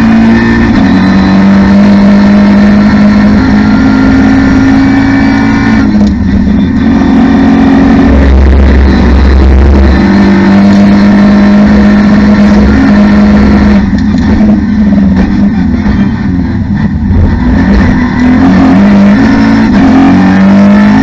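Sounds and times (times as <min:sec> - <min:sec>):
race car engine revving: 0:00.0 - 0:21.0.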